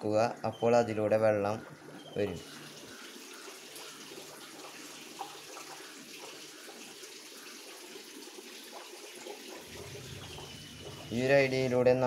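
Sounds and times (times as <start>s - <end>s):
water running through drain pipe: 0.0s - 12.0s.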